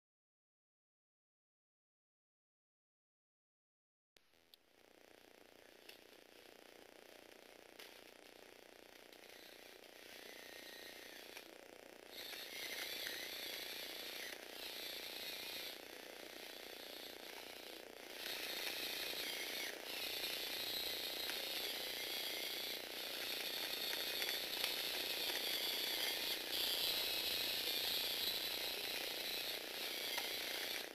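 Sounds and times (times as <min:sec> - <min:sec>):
electric motor whirring with gear chatter: 0:04.8 - 0:30.9.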